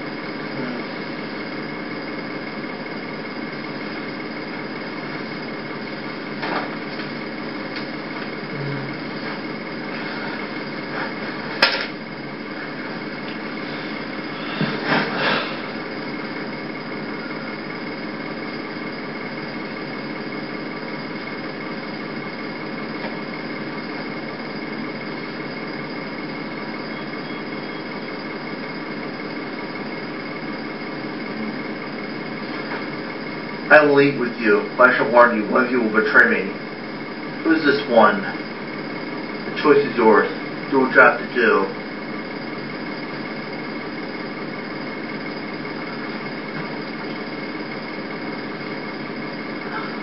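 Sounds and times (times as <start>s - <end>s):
faint high whine: 0.0s - 50.0s.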